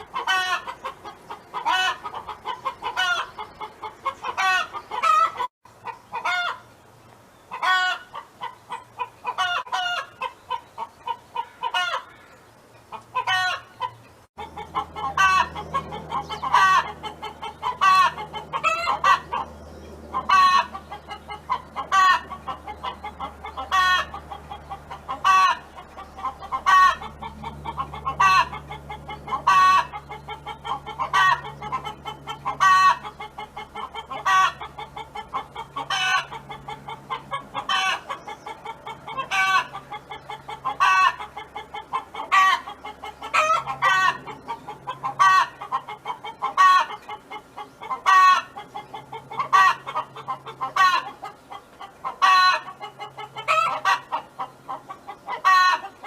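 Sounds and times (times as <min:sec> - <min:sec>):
hen clucking: 0:00.0 - 0:06.7, 0:07.5 - 0:56.0.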